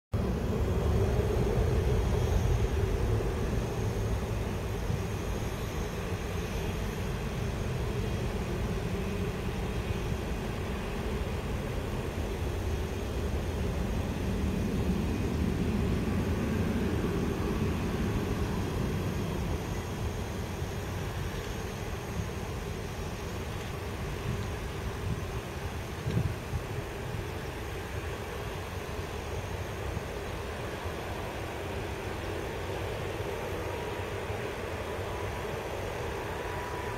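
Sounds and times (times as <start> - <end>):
distant jet engine rumble: 0.2 - 36.9.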